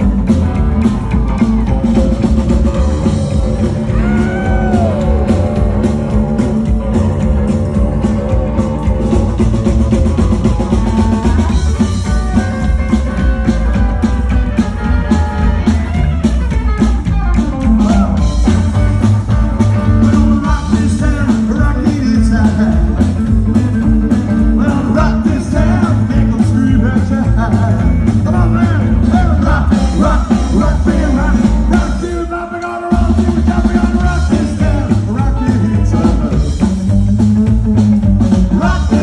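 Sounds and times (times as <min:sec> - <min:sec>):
slapped upright bass: 0:00.0 - 0:32.2, 0:32.9 - 0:39.0
drum kit beat: 0:00.0 - 0:39.0
electric guitar: 0:00.0 - 0:39.0.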